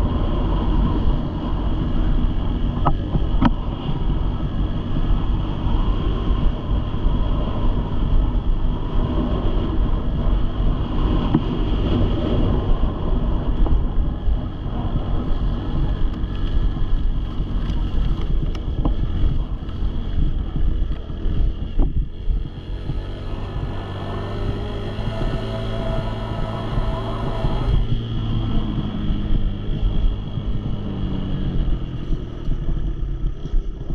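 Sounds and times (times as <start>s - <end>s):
dirt bike engine running: 0.0s - 33.9s
wind buffeting microphone: 0.0s - 33.9s.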